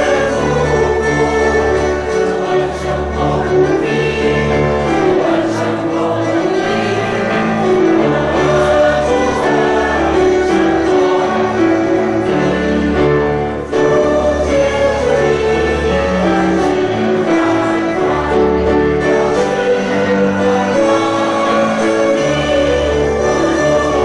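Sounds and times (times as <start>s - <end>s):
mixed choir singing in harmony: 0.0s - 24.0s
sustained keyboard accompaniment: 0.0s - 24.0s.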